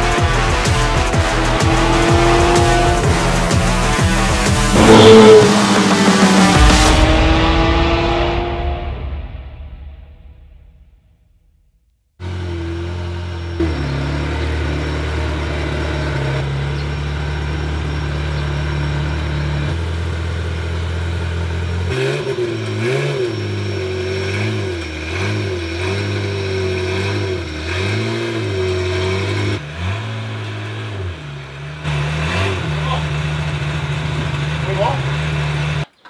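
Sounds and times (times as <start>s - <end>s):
car engine idling: 0.0s - 8.0s, 12.2s - 35.9s
engine revving in throttle blips: 0.0s - 9.0s, 12.2s - 35.9s.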